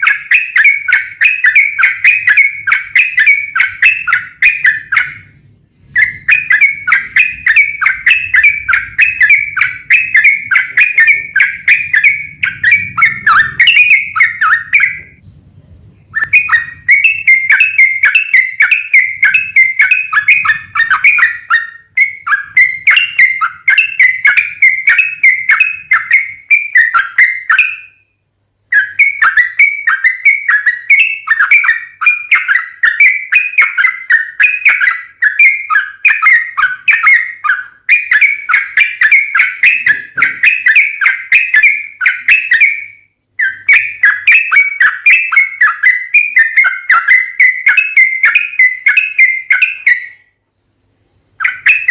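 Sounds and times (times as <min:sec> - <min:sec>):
bird singing bubbling chatter: 0:00.0 - 0:28.0, 0:28.6 - 0:50.3, 0:51.2 - 0:51.9.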